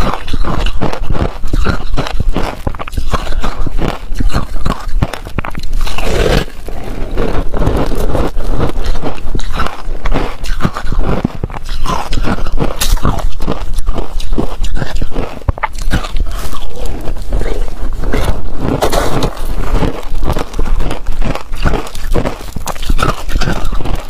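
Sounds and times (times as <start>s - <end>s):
ice crunching and chewing: 0.0s - 24.0s.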